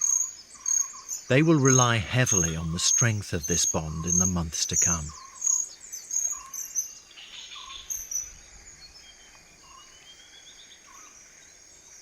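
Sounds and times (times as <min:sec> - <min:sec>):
bird chirps: 0:00.0 - 0:12.0
insects chirping: 0:00.0 - 0:12.0.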